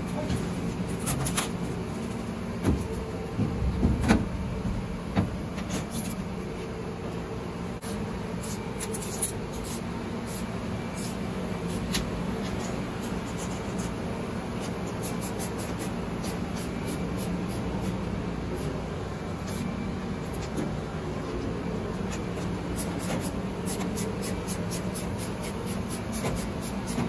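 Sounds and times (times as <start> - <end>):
low machinery hum: 0.0 - 27.0.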